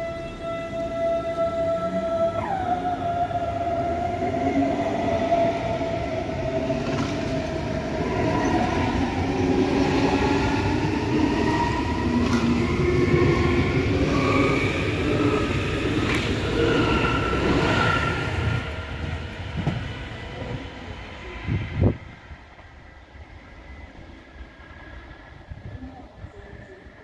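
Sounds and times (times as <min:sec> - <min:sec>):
electric train drive whining: 0:00.0 - 0:25.2
wheels rumbling on rail: 0:00.0 - 0:27.0.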